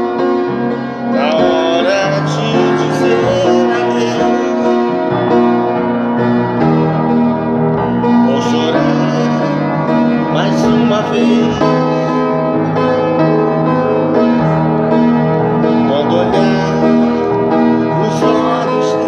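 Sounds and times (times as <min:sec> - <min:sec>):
keyboard music with held chords: 0:00.0 - 0:19.0.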